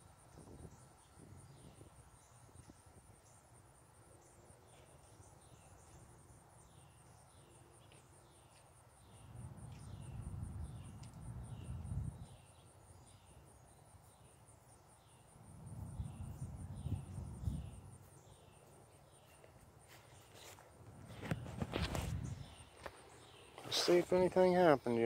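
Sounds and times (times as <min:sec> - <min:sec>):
insects trilling: 0:00.1 - 0:25.0.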